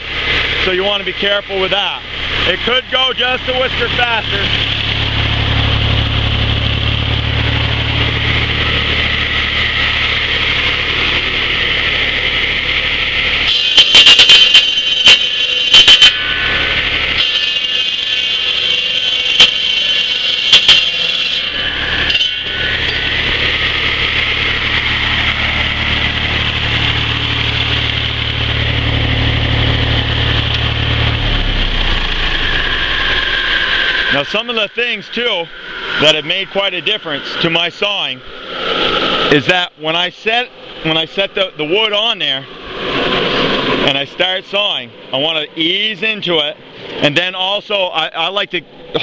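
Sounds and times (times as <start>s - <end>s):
circular saw blade spinning: 0.0s - 39.4s
tractor engine running: 0.0s - 39.4s.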